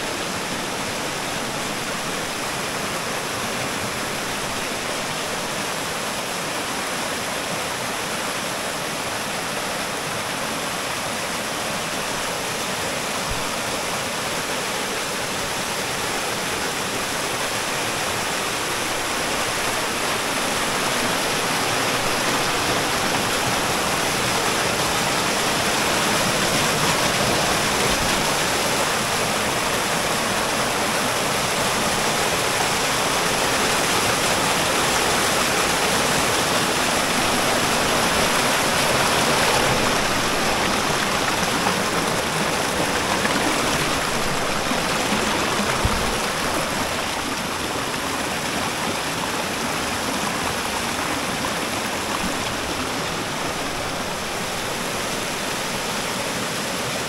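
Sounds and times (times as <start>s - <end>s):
stream rushing over boulders: 0.0s - 57.0s.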